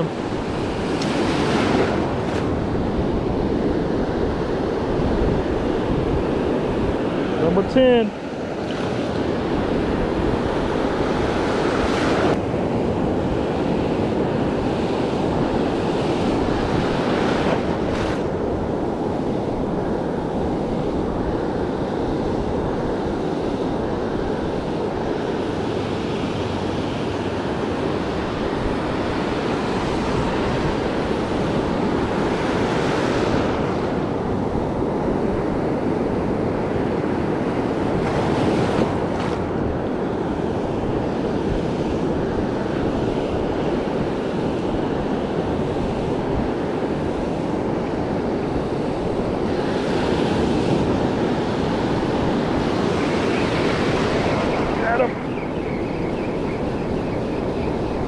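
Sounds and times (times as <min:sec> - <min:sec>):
waves breaking: 0:00.0 - 0:12.4, 0:23.7 - 0:57.8
wind buffeting microphone: 0:00.0 - 0:58.0.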